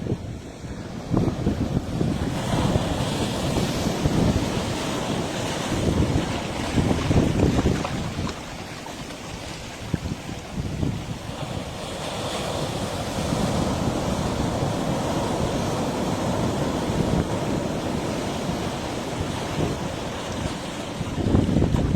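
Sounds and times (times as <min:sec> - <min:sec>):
sea waves breaking: 0:00.0 - 0:21.9
wind buffeting microphone: 0:00.0 - 0:21.9.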